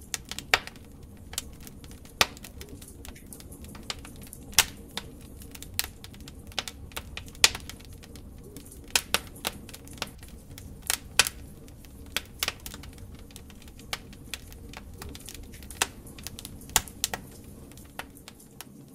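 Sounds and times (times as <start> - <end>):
logs crackling and popping: 0.0 - 18.9
low rumble of fire: 0.0 - 18.9.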